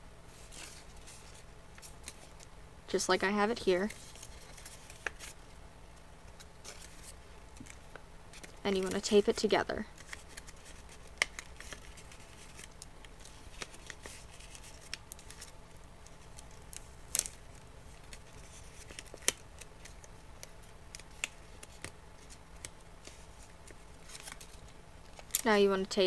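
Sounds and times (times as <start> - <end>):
paper strips crinkling: 0.3 - 2.5, 3.7 - 5.5, 6.3 - 25.6.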